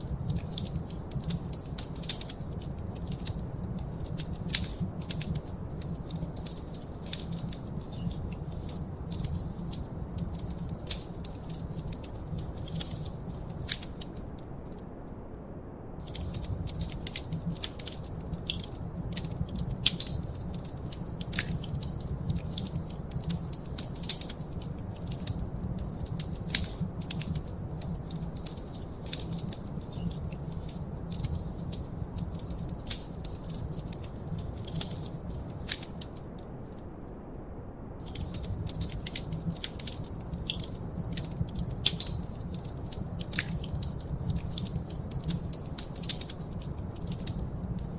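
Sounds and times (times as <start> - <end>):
wood fire crackling: 0.0 - 15.0, 16.0 - 37.0, 38.0 - 47.9.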